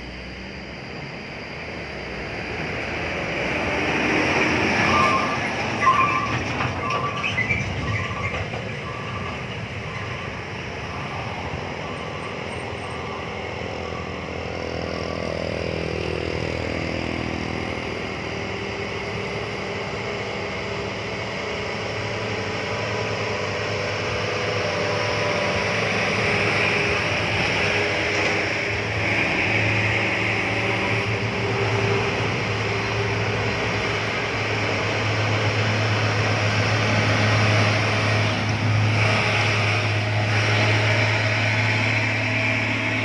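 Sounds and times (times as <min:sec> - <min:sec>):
truck diesel engines labouring: 0:00.0 - 0:43.0.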